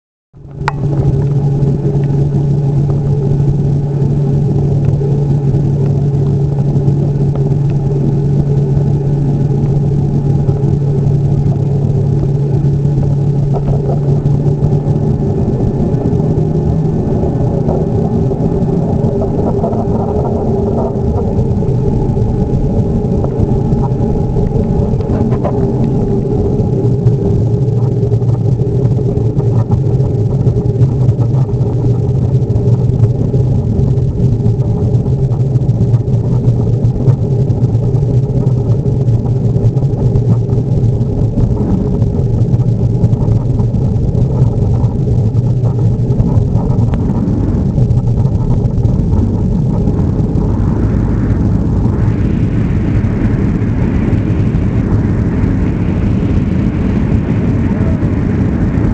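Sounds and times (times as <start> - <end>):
jet engines rumbling in cabin: 0.4 - 58.9.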